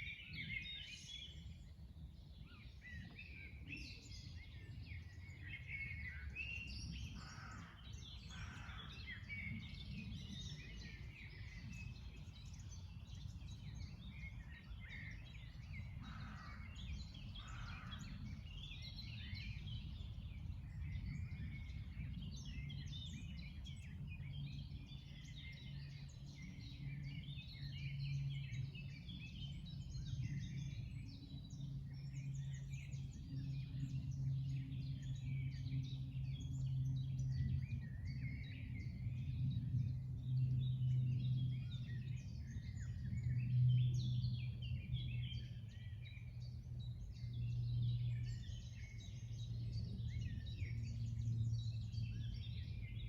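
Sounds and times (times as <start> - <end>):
low rumble with hum: 0.0 - 53.0
songbirds chirping and trilling: 0.0 - 53.0.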